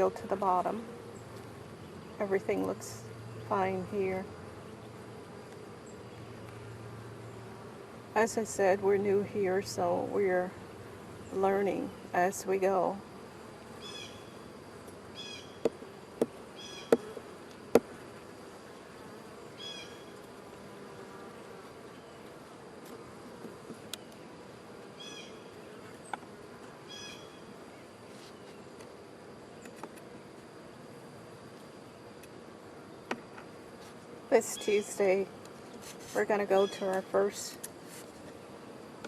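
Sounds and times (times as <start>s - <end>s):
bees buzzing: 0.0s - 39.0s.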